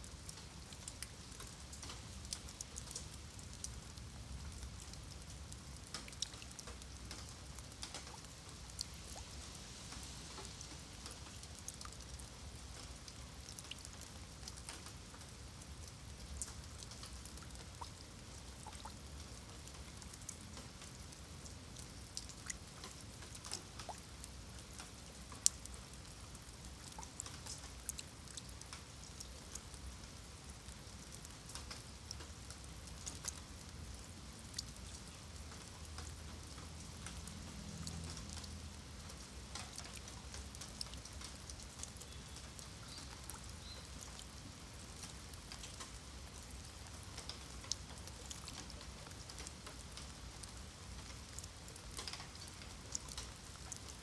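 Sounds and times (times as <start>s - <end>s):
light rain on wet paving: 0.0s - 54.0s
raindrops clicking: 0.1s - 54.0s.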